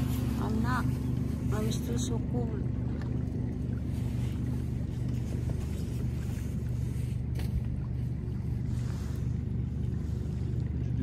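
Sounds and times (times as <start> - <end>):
boat motor droning: 0.0 - 11.0
water washing: 0.0 - 11.0
wind: 0.0 - 11.0.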